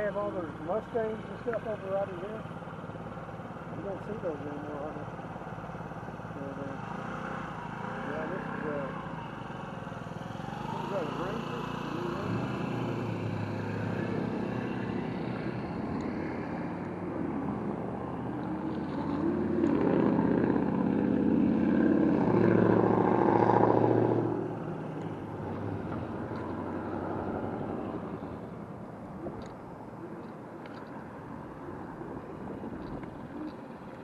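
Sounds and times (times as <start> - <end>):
road and wind noise: 0.0 - 34.0
vehicle engine passing: 3.9 - 34.0.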